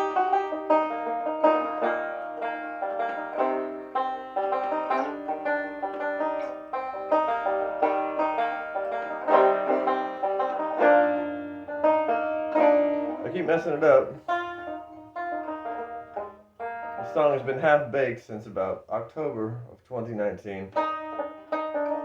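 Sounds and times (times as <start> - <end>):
banjo plucked notes: 0.0 - 22.0.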